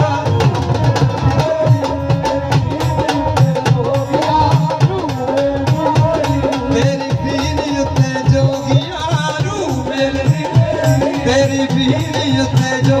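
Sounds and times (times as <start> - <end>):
hand drum beat: 0.0 - 13.0
keyboard melody: 0.0 - 13.0.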